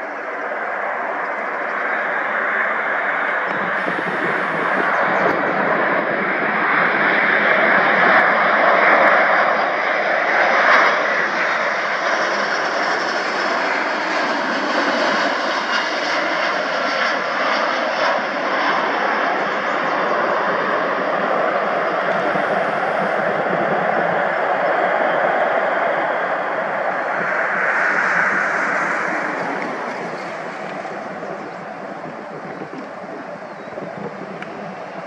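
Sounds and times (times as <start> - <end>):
aircraft engines running: 0.0 - 35.0.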